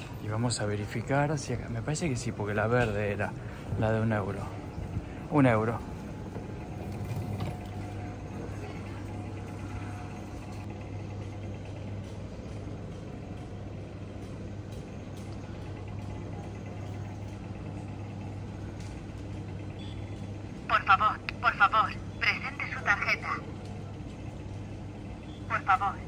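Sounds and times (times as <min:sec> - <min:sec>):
airport terminal background hum: 0:00.0 - 0:26.0.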